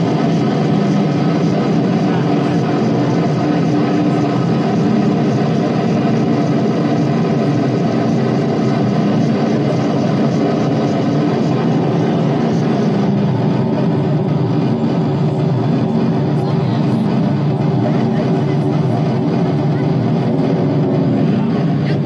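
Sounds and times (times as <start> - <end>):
dense noise music drone: 0.0 - 22.0.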